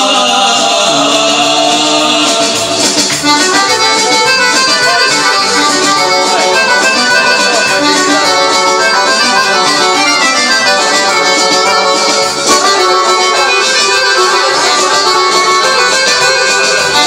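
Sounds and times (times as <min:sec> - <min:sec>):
accordion-like lead melody: 0:00.0 - 0:17.0
folk band accompaniment: 0:00.0 - 0:17.0.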